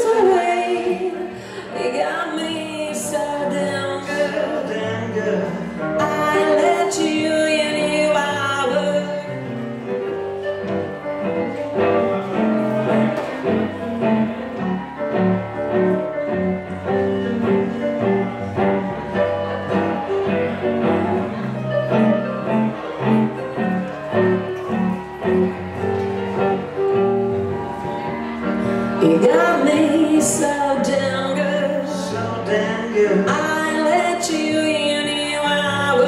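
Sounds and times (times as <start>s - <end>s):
electric guitar playing blues: 0.0s - 36.0s
keyboard playing: 2.0s - 36.0s.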